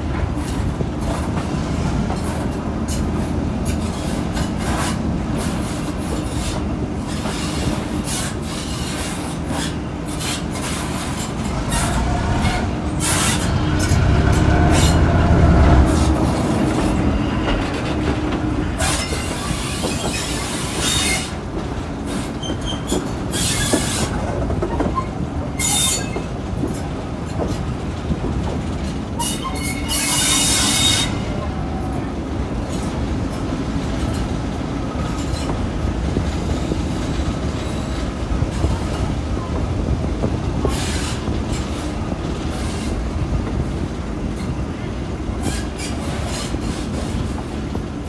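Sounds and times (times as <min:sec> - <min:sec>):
diesel locomotive engine: 0:00.0 - 0:48.0.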